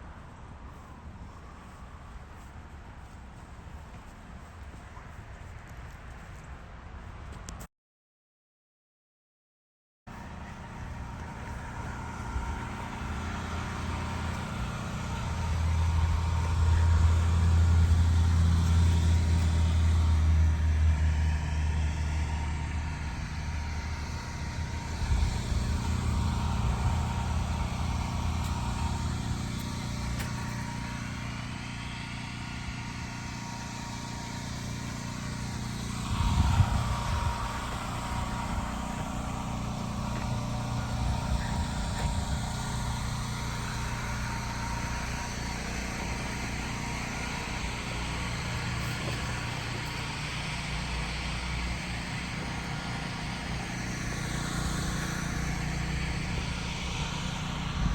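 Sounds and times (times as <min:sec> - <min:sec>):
vehicle engine and road rumble: 0:00.0 - 0:07.7, 0:10.1 - 0:57.9.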